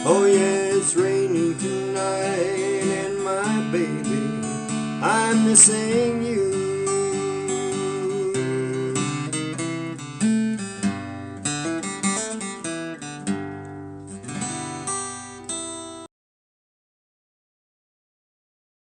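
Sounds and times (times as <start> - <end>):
acoustic blues guitar: 0.0 - 16.1.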